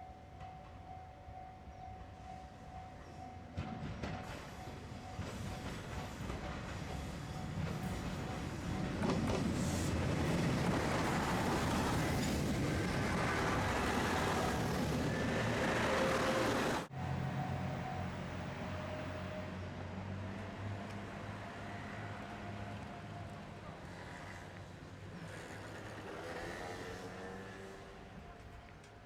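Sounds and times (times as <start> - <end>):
diesel train rumbling past: 0.4 - 29.0.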